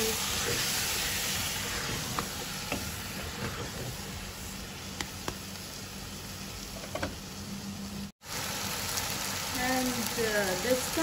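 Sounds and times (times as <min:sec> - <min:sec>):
curry sizzling in a stockpot: 0:00.0 - 0:11.0.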